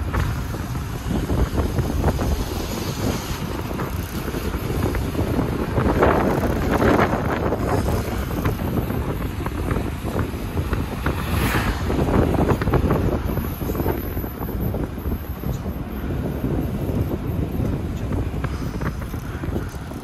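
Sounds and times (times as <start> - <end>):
vehicle road noise: 0.0 - 20.0
wind buffeting microphone: 0.0 - 20.0.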